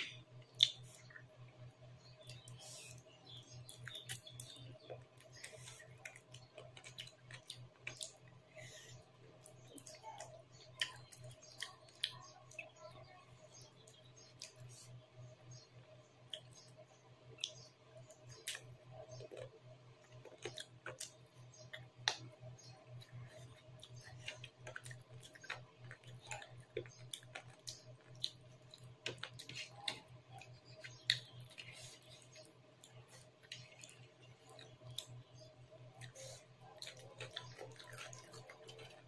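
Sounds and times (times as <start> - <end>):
fingers squishing food: 0.0 - 39.0
low steady hum: 0.0 - 39.0
chewing with wet mouth smacks: 0.4 - 1.3, 2.2 - 12.8, 16.2 - 39.0.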